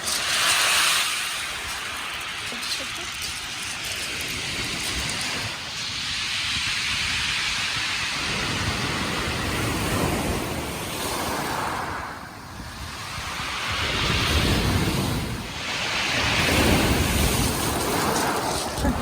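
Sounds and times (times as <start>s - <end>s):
sea surf: 0.0s - 19.0s
wind buffeting microphone: 1.6s - 19.0s.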